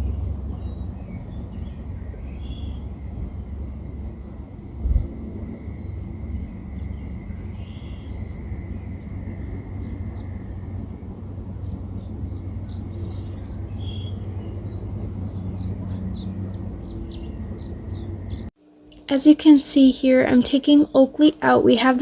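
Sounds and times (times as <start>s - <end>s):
birds chirping: 0.0s - 18.5s
wind buffeting microphone: 0.0s - 18.5s.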